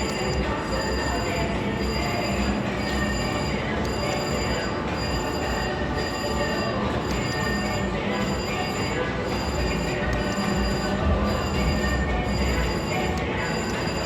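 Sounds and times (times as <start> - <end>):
casino floor din: 0.0 - 14.0
slot machine electronic tones: 0.0 - 14.0.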